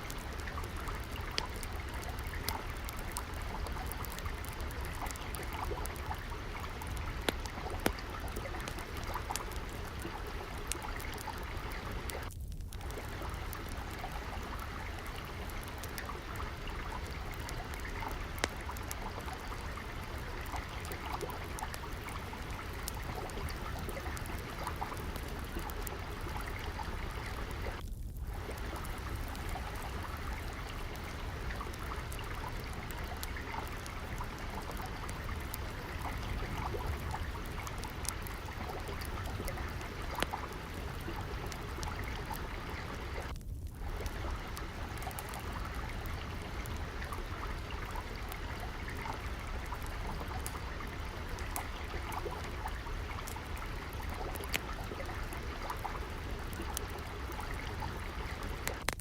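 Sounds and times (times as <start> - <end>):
water trickling: 0.0 - 59.0
wood fire crackling: 0.0 - 59.0.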